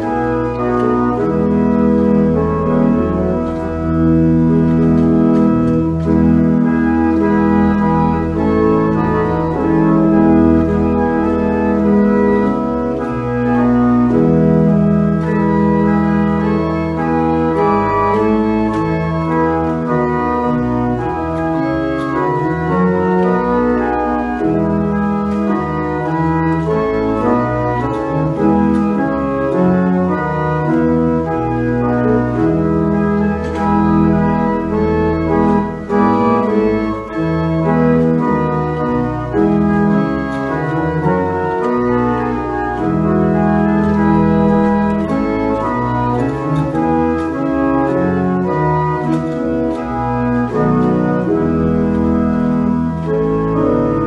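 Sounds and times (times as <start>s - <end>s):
church pipe organ chords: 0.0s - 54.0s.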